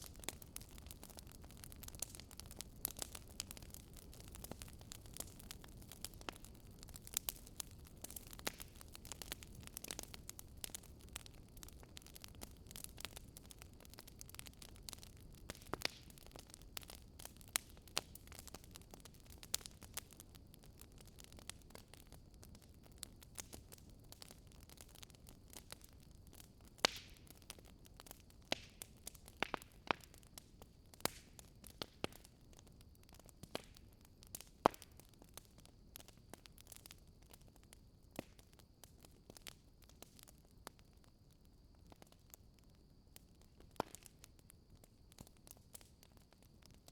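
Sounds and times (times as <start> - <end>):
bonfire crackling and popping: 0.0 - 46.9.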